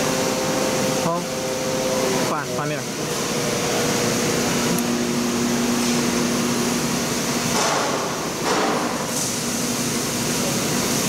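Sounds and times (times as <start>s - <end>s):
workshop machinery humming: 0.0s - 11.0s.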